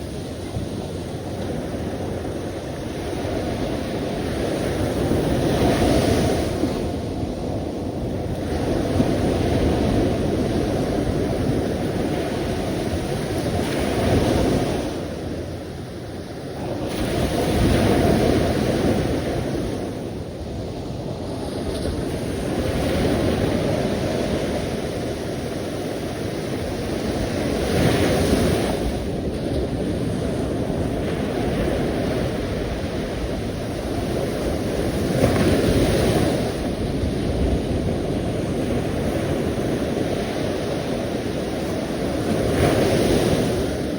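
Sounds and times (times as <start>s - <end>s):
sea waves breaking: 0.0s - 43.9s.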